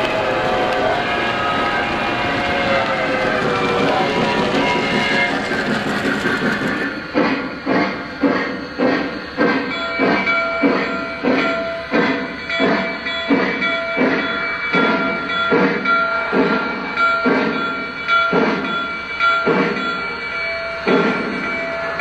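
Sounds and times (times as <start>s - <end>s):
rhythmic steam chuffs: 0.0s - 22.0s.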